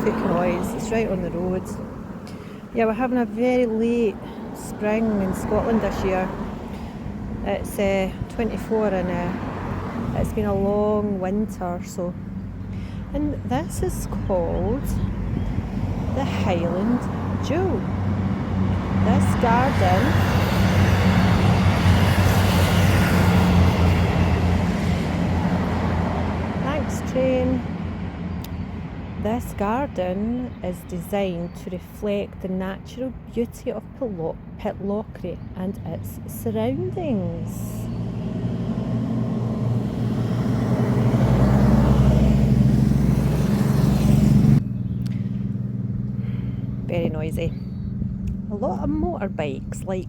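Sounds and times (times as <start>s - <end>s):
heavy diesel engine passing: 0.0s - 34.0s, 35.2s - 50.0s
road noise: 0.0s - 50.0s.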